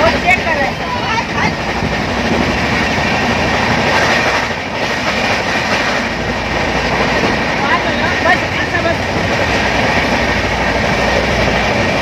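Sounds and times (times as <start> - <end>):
train wheels rattling on rails: 0.0 - 12.0.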